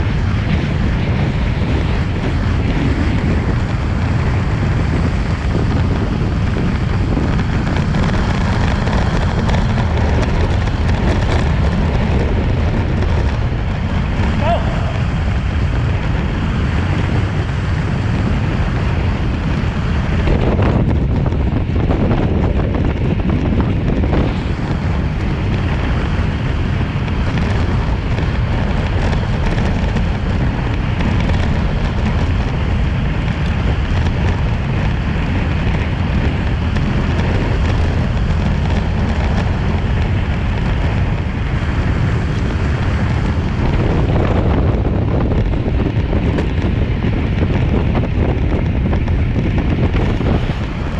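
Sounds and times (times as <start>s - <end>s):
wind noise on microphone: 0.0s - 50.9s.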